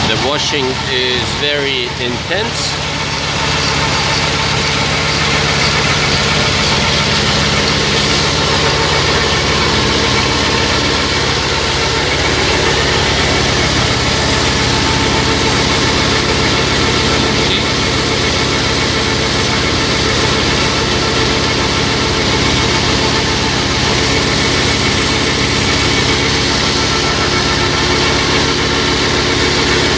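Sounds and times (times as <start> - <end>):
pump running: 0.0 - 29.9.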